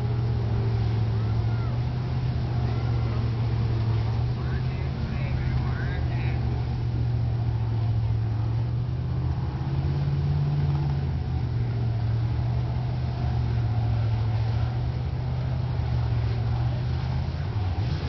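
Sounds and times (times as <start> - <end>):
truck engine under heavy load: 0.0 - 18.0.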